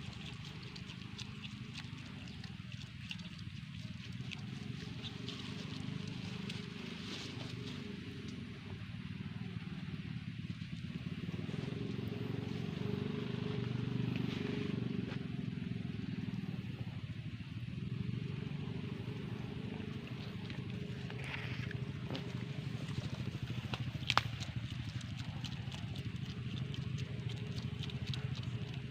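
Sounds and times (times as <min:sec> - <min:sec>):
small engine running: 0:00.0 - 0:28.9.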